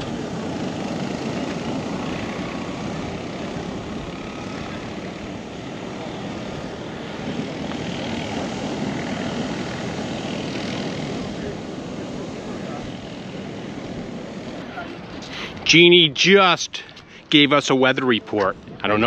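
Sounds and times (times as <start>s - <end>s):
drone propellers whirring: 0.0s - 19.0s.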